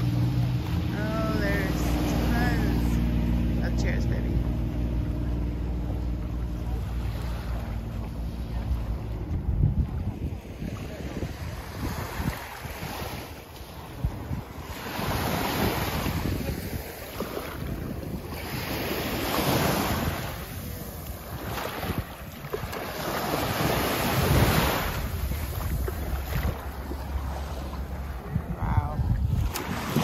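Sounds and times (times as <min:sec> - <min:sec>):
small waves lapping on beach: 0:00.0 - 0:30.0
wind buffeting microphone: 0:04.4 - 0:30.0.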